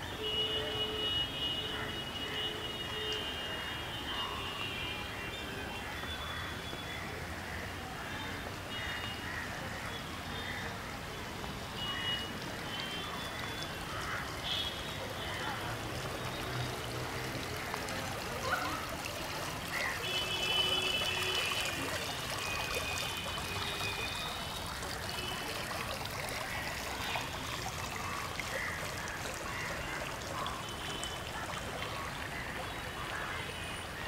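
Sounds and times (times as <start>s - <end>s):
pond fountain trickling and splashing: 0.0s - 34.0s.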